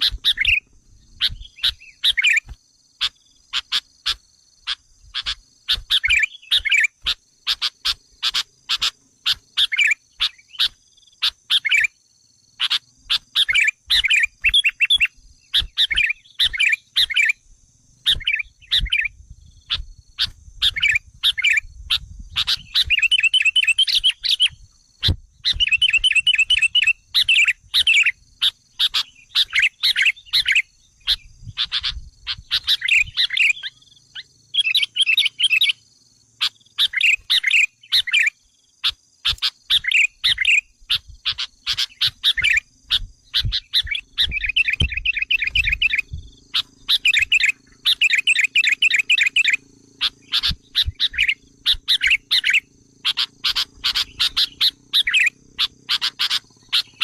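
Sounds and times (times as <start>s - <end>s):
bird chattering call: 0.0s - 11.9s, 12.6s - 17.4s, 19.7s - 35.8s, 36.4s - 57.0s.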